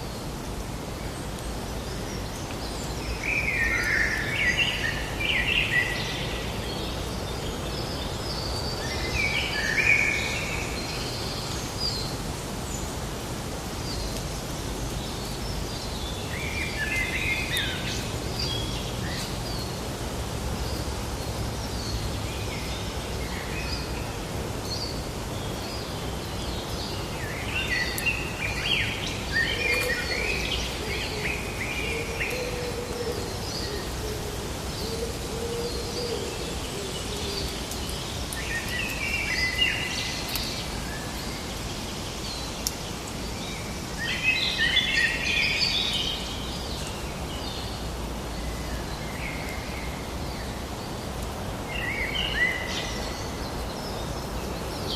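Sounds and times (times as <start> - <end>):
steady background hiss: 0.0 - 54.9.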